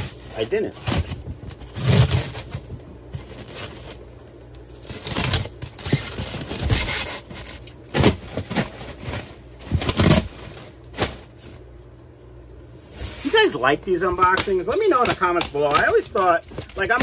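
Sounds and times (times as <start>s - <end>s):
styrofoam box scraping and rubbing: 0.0s - 4.0s, 4.8s - 11.2s, 12.9s - 13.6s, 14.2s - 17.0s.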